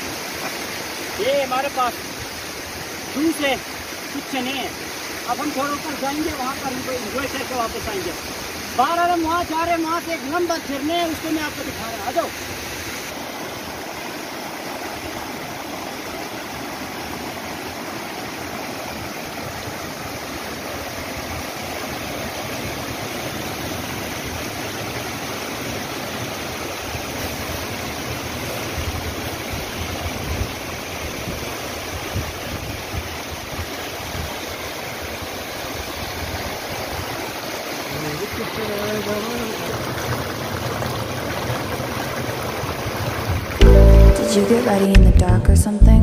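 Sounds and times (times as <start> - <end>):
stream rushing over rocks: 0.0 - 45.1.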